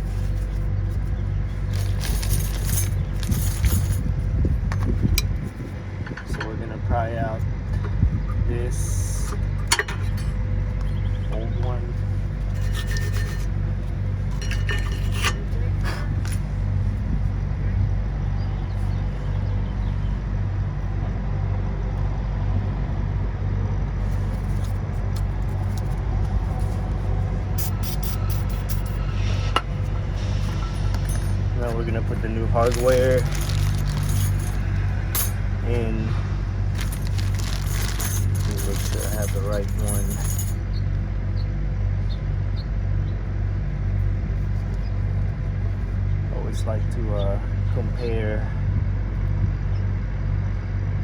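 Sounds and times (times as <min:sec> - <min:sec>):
low mechanical hum: 0:00.0 - 0:51.0
vehicle engine idling: 0:00.0 - 0:51.0.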